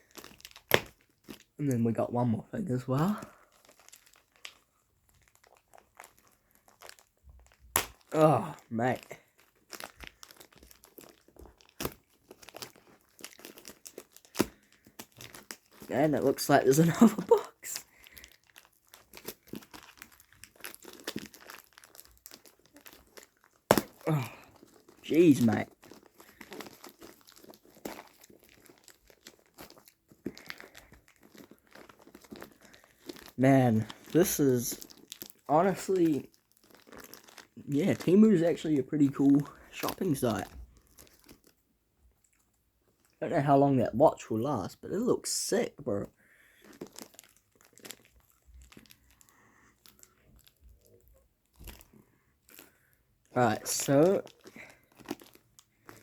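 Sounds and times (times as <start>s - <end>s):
packaging crinkling: 0.0s - 1.7s, 2.7s - 41.6s, 45.0s - 56.0s.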